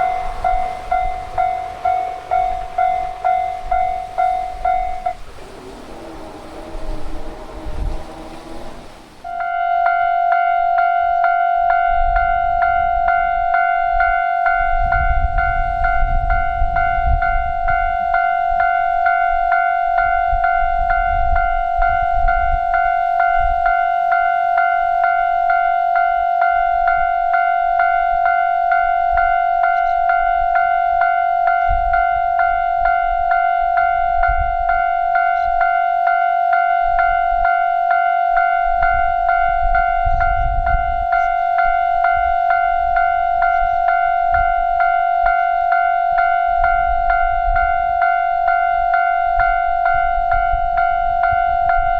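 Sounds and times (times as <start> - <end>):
railroad crossing warning bell: 0.0 - 51.9.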